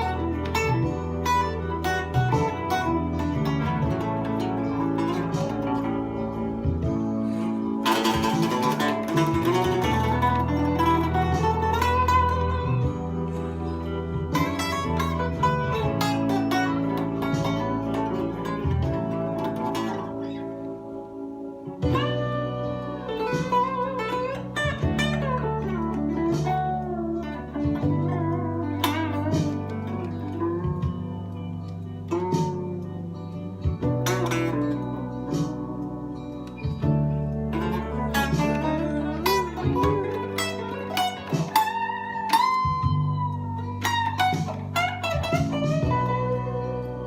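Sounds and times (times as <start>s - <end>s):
bluesy electric guitar playing: 0.0s - 47.0s.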